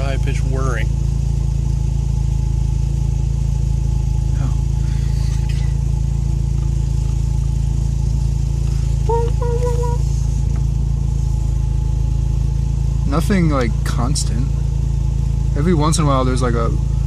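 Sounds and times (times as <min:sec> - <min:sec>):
rotary engine idling: 0:00.0 - 0:17.0.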